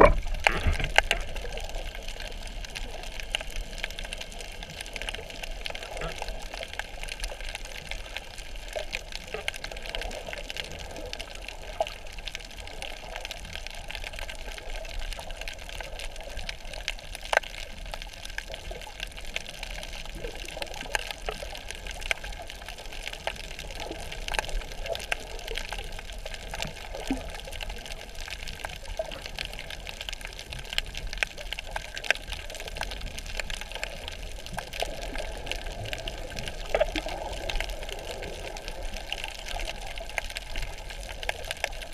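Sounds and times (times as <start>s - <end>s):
underwater clicks and crackles: 0.0s - 41.9s
underwater hiss and rumble: 0.0s - 41.9s.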